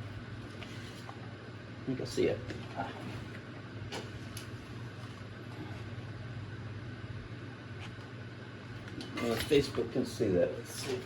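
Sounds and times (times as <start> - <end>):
workshop hum: 0.0 - 11.0.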